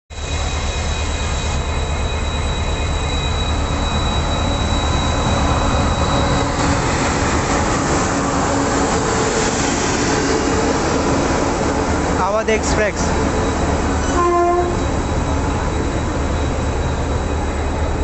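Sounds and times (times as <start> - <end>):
high-pitched squeal: 0.1 - 18.0
train wheels and motors rumbling: 0.1 - 18.0.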